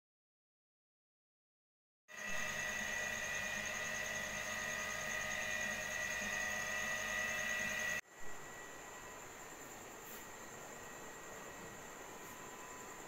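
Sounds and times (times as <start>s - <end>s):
electrical hum with whine: 2.1s - 13.0s.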